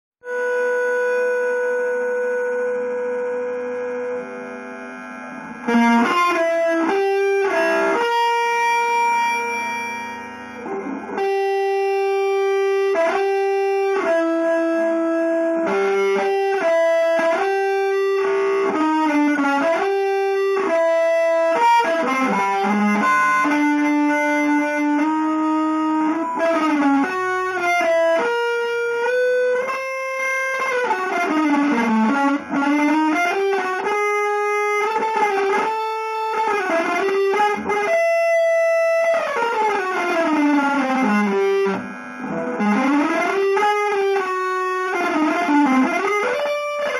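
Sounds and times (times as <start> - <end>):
electric guitar melody: 0.2 - 46.9.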